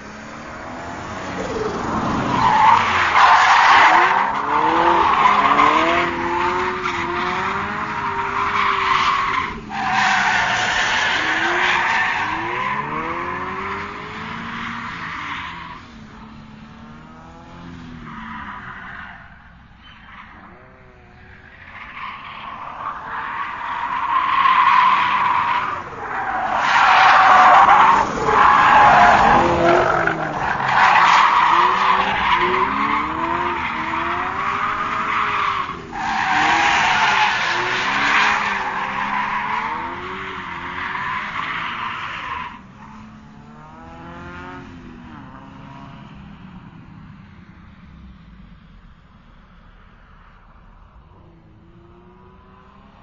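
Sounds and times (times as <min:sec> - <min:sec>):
car engine revving: 0:00.0 - 0:18.5, 0:19.3 - 0:47.2
car tires squealing and skidding: 0:00.6 - 0:16.1, 0:17.5 - 0:44.8.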